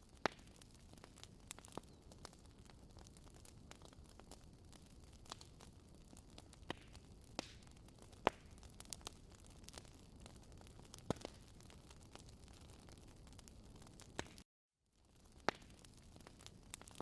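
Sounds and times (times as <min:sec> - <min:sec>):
campfire crackling: 0:00.0 - 0:14.4, 0:15.0 - 0:17.0.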